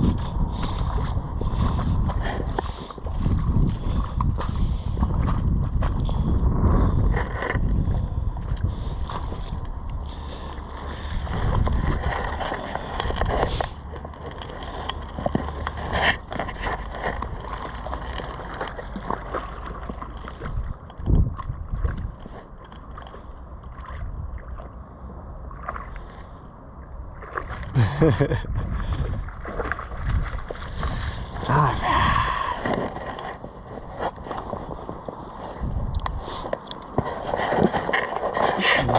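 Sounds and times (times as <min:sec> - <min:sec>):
floodwater sloshing and splashing: 0:00.0 - 0:38.9.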